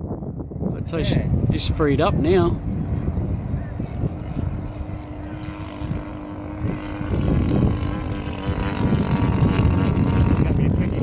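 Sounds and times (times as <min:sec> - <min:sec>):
model plane engine droning: 0:01.0 - 0:11.0.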